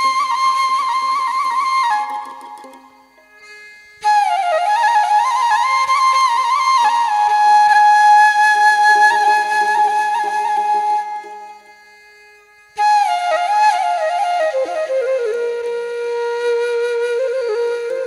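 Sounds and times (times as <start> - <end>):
flute melody: 0.0 - 3.2, 4.0 - 11.8, 12.8 - 18.0.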